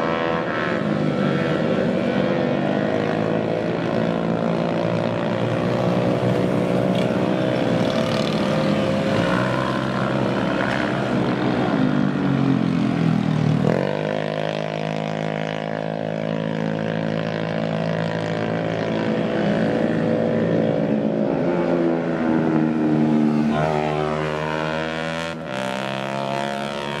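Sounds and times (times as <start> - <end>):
motorcycle engine revving high: 0.0 - 27.0.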